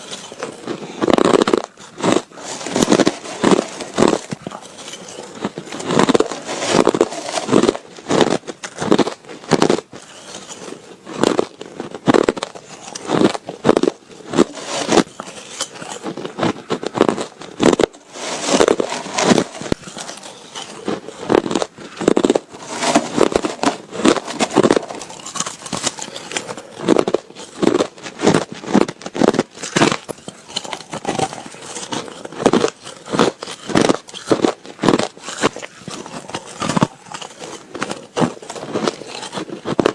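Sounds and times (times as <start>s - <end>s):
ice crunched between teeth: 0.0s - 39.9s.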